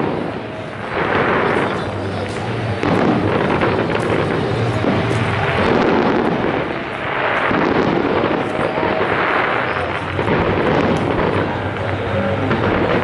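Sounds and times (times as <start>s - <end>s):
fireworks crackling and rumbling: 0.0s - 13.0s.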